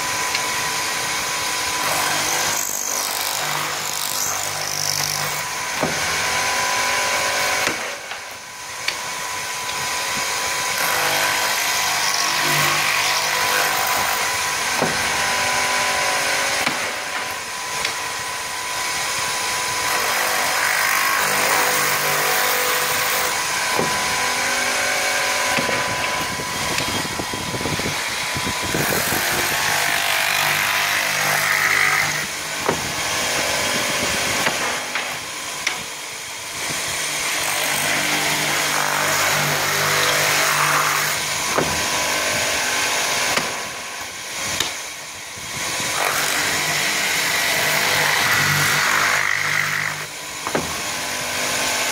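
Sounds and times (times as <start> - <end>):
drilling machine motors whining: 0.0 - 51.9.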